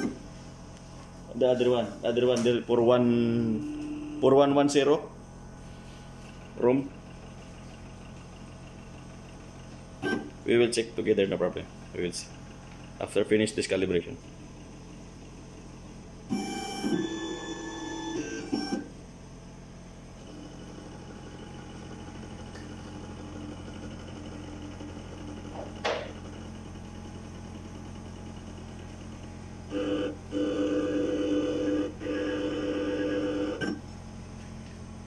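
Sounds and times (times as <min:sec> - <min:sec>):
milling machine motor hum: 0:00.0 - 0:35.0
loud motor whine: 0:01.2 - 0:34.4.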